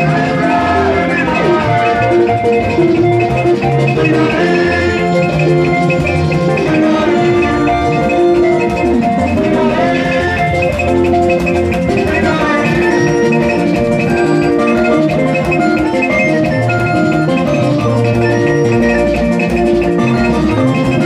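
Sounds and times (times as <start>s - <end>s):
dance music: 0.0s - 21.0s.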